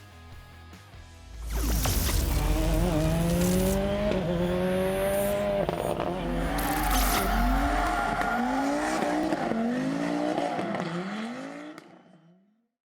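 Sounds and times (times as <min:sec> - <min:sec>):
rally car engine accelerating: 0:01.5 - 0:12.4.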